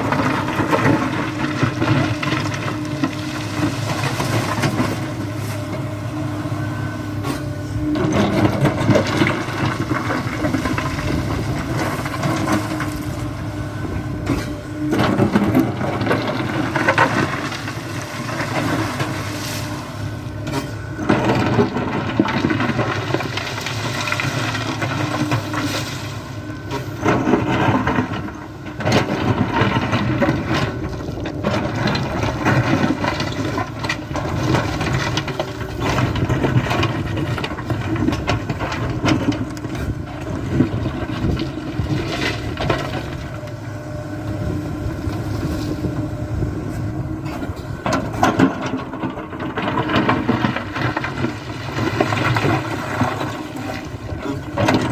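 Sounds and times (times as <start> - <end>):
excavator diesel engine: 0.0 - 54.9.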